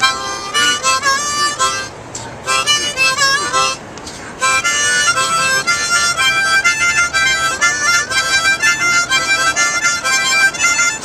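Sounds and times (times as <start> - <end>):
harmonica chords: 0.0 - 11.0.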